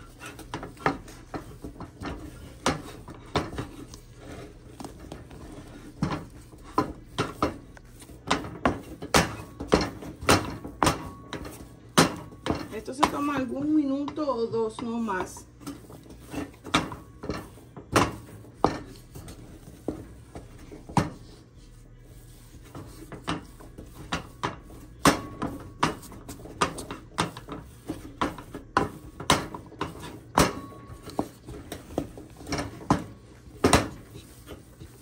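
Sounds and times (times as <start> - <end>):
utensil scraping a pot: 0.0 - 35.0.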